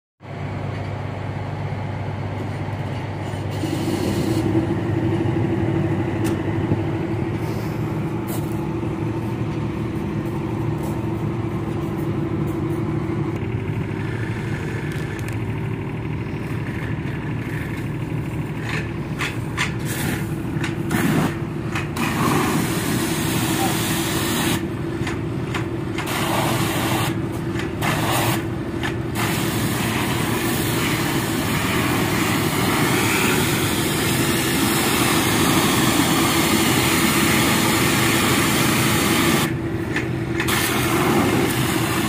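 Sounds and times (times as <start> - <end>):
steady hum: 0.3 - 42.0
pressure washer drone: 3.2 - 24.9, 25.5 - 42.0.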